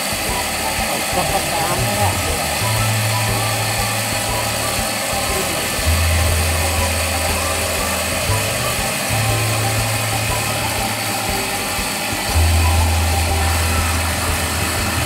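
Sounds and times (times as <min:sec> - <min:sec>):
cotton candy machine motor hum: 0:00.0 - 0:15.0.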